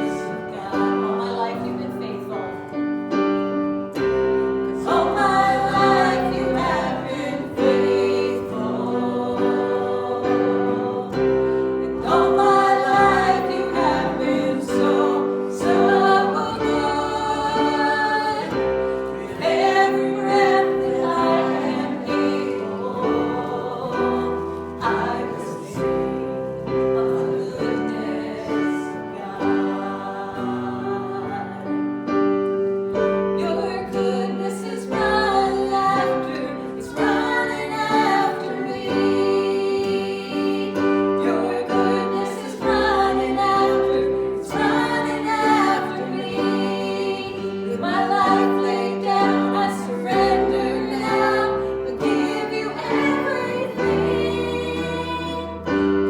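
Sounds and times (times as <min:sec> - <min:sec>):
group singing a hymn: 0:00.0 - 0:56.0
piano accompaniment: 0:00.0 - 0:56.0.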